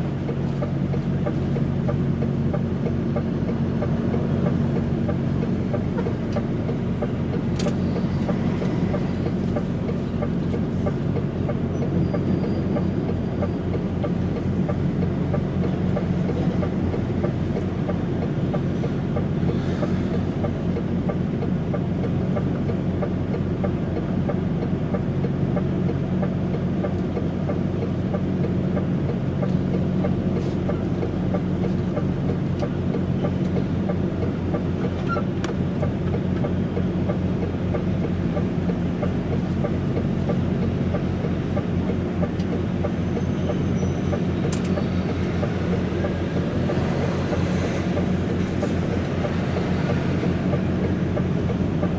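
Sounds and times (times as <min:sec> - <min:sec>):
truck diesel engine humming: 0:00.0 - 0:51.9.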